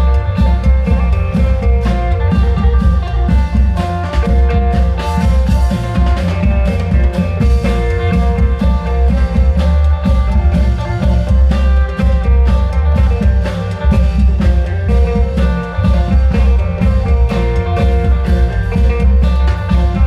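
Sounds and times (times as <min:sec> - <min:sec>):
heavy drum beats: 0:00.0 - 0:20.0
held melody notes: 0:00.0 - 0:20.0.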